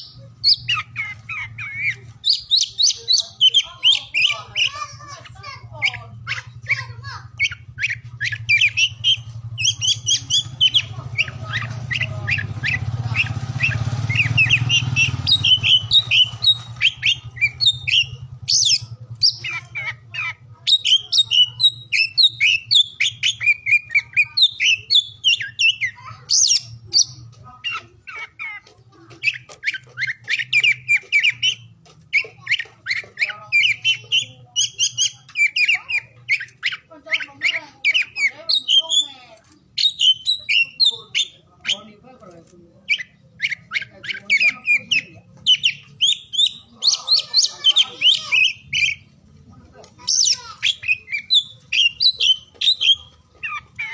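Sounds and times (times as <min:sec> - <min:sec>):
bird singing chirps and whistles: 0:00.0 - 0:04.9, 0:05.8 - 0:28.6, 0:29.2 - 0:42.0, 0:42.8 - 0:49.1, 0:50.0 - 0:53.9.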